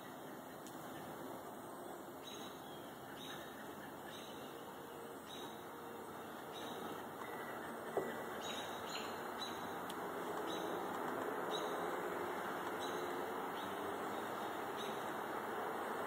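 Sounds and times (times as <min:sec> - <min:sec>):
background hiss: 0:00.0 - 0:16.0
birds chirping: 0:00.0 - 0:16.0.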